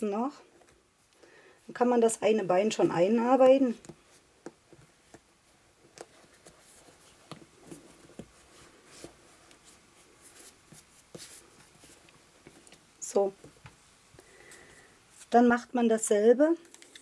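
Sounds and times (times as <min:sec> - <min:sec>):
soft rubbing: 0:00.5 - 0:15.6.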